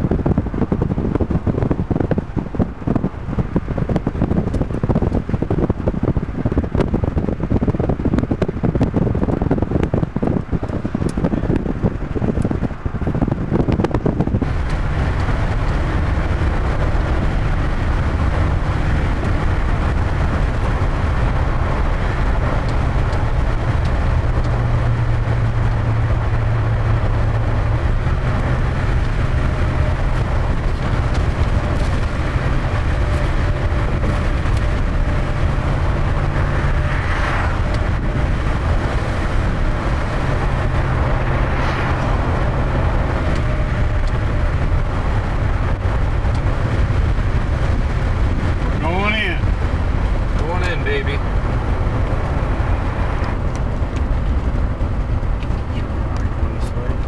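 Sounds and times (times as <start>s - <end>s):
car driving interior drone: 0.0s - 57.0s.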